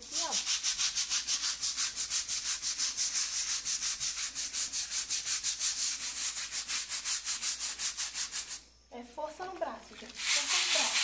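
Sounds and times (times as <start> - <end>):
scrub brush scrubbing wet wall: 0.0 - 8.6, 9.6 - 11.0.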